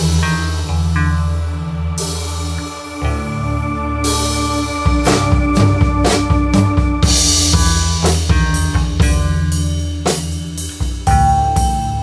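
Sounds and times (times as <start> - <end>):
short higher notes: 0.0 - 9.7
low bass line: 0.0 - 12.0.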